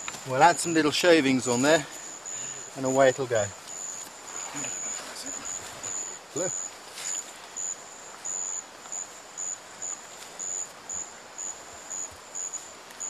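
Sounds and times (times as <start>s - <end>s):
insect buzzing call: 0.0s - 13.0s
steady background hiss: 0.0s - 13.0s.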